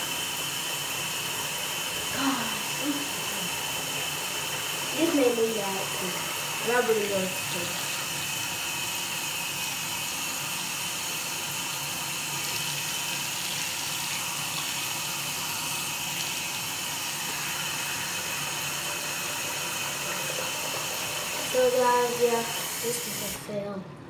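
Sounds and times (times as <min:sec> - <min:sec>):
bowl being washed: 0:00.0 - 0:23.4
tap water running into sink: 0:00.0 - 0:23.4.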